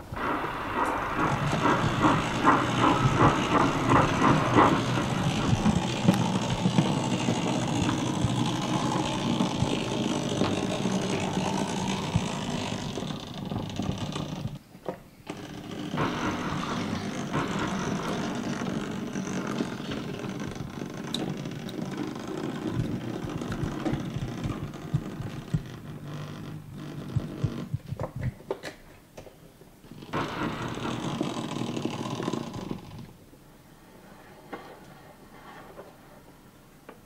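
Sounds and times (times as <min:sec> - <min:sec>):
model train motor whirring: 0:00.0 - 0:14.6, 0:15.3 - 0:27.7, 0:29.9 - 0:33.1
wheels clicking over rail joints: 0:00.0 - 0:29.3, 0:29.9 - 0:33.2.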